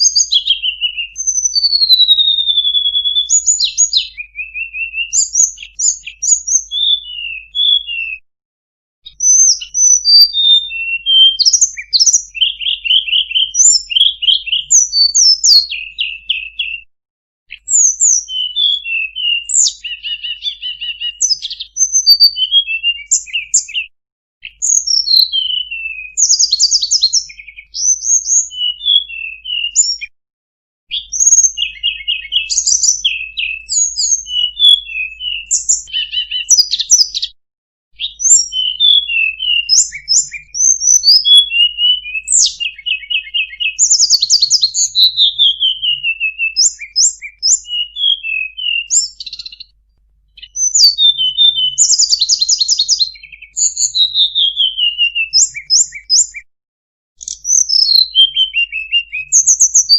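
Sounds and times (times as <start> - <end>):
bird singing chirps and trills: 0.0 - 8.2, 9.0 - 16.9, 17.5 - 30.1, 30.9 - 37.4, 38.0 - 49.7, 50.4 - 56.5, 57.2 - 59.9.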